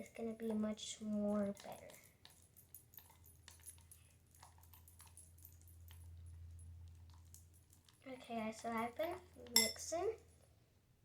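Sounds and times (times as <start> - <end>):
stick stirring slime in bowl: 0.0 - 10.6
low steady hum: 0.0 - 11.0.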